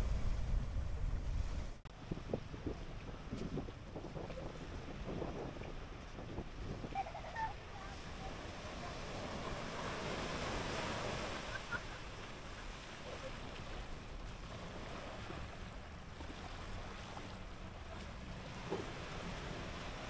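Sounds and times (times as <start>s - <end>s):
surf washing onto beach: 0.0s - 20.0s
wind rumble on microphone: 0.0s - 20.0s.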